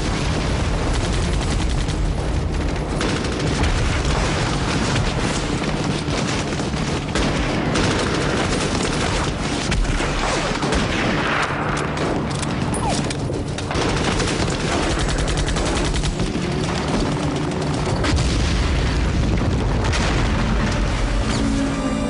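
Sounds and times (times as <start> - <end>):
rifle and machine-gun fire: 0.0 - 21.2.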